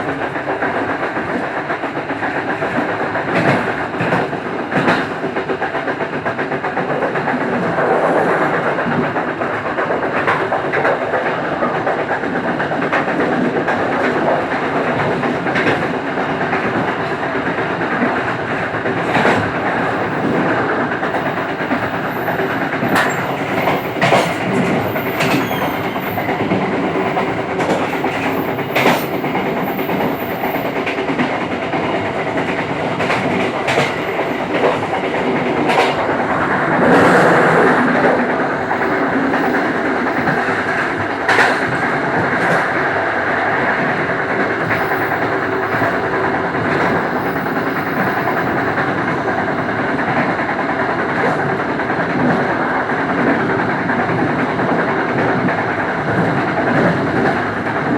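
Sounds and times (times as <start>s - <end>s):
clacks over rail joints: 0.0s - 57.9s
train wheels rumbling on rail: 0.0s - 57.9s.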